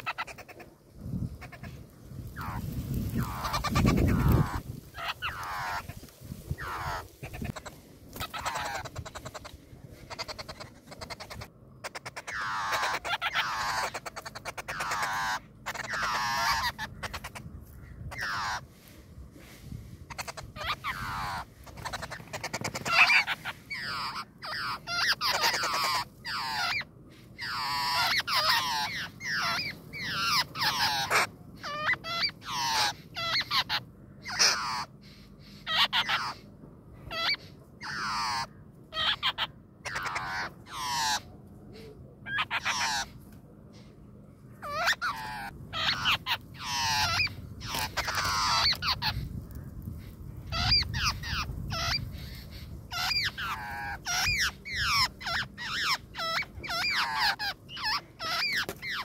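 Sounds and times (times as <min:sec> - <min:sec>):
nestling birds begging calls: 0:00.0 - 0:59.0.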